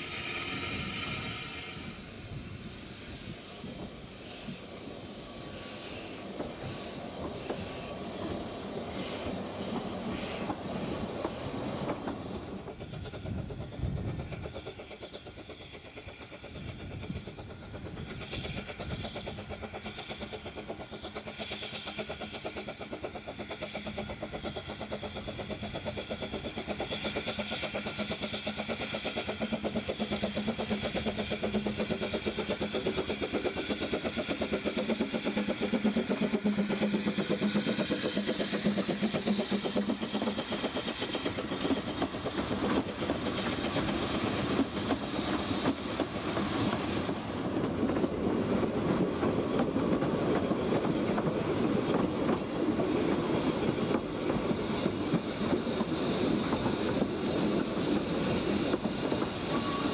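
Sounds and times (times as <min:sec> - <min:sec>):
steam locomotive running: 0:00.0 - 0:59.9
train wheels clacking over rail joints: 0:03.6 - 0:59.9.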